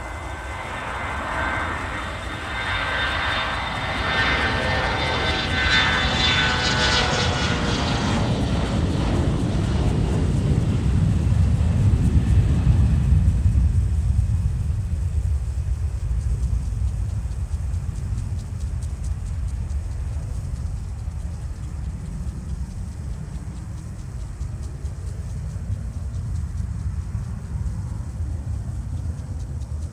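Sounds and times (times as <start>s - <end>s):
jet engine deep rumble: 0.0s - 29.9s
jet engine high whine: 0.0s - 29.9s.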